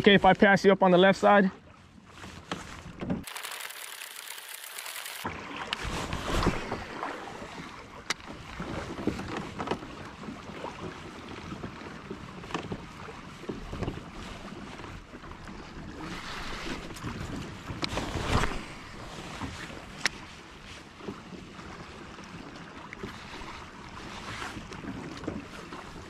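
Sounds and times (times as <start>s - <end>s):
water splashing against hull: 1.6s - 26.0s.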